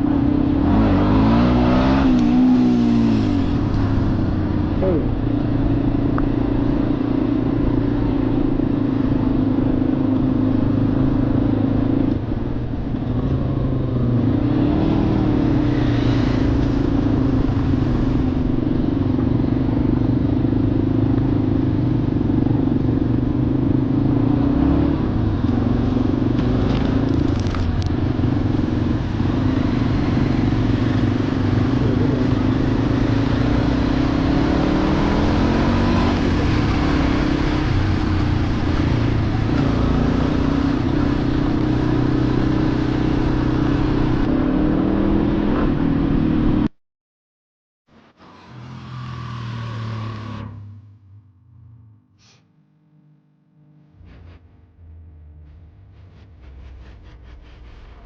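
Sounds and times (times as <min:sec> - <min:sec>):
road and wind noise: 0:00.0 - 0:46.7
motorcycle engine running: 0:01.9 - 0:44.3, 0:49.0 - 0:58.0.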